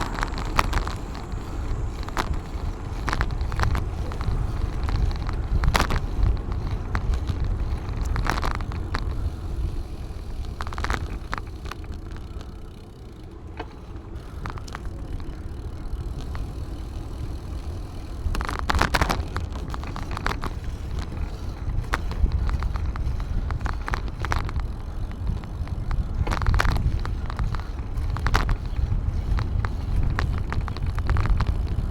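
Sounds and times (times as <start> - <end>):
clicks and rattles: 0.0 - 12.6, 13.2 - 31.9
bicycle tyre noise: 0.0 - 31.9
wind rumble on microphone: 0.0 - 31.9.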